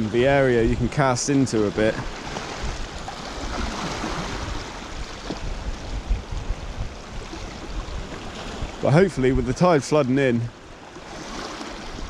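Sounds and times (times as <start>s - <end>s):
wind buffeting microphone: 0.0s - 12.0s
small waves washing around rocks: 0.4s - 12.0s.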